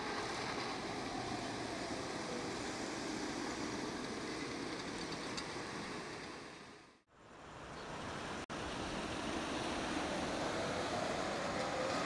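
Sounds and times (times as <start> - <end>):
tram wheels rumbling on rails: 0.0 - 6.8, 8.6 - 12.0.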